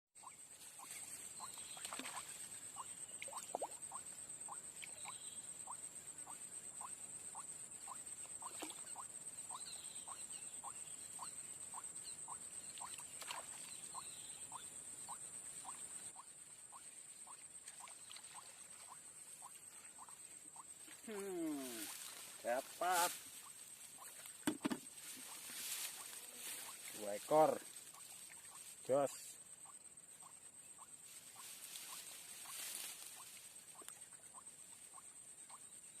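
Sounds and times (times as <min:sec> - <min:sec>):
frog calling: 0:00.2 - 0:36.0
high-pitched insect hiss: 0:00.2 - 0:36.0.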